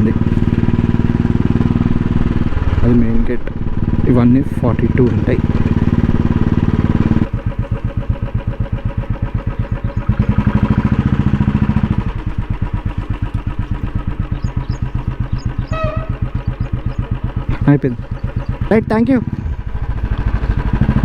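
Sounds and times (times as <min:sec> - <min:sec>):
motorcycle engine running at low revs: 0:00.0 - 0:21.0.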